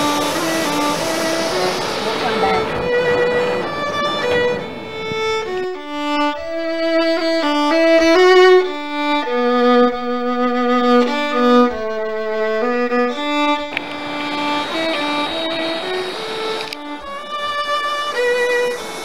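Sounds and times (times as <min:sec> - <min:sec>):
slow instrumental melody: 0:00.0 - 0:19.0.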